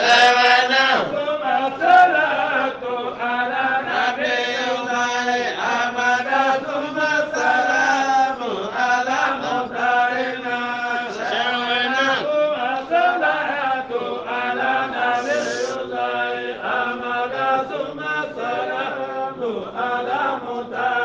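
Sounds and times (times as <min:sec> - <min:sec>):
person chanting devotional poem: 0:00.0 - 0:21.0.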